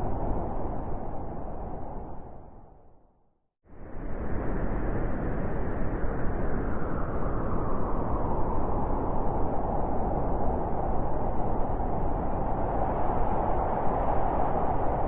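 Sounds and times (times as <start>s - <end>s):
wind blowing steadily: 0.0s - 3.0s, 3.7s - 15.0s.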